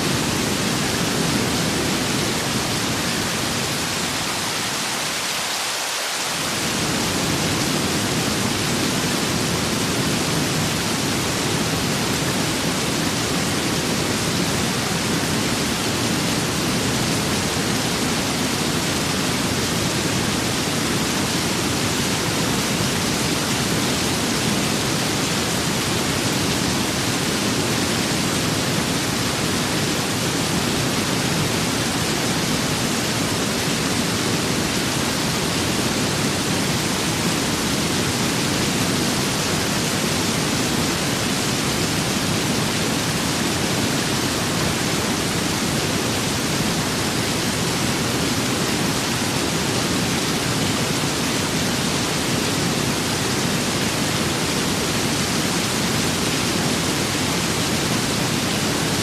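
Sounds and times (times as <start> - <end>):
steady rain: 0.0 - 59.0
wind: 0.0 - 59.0.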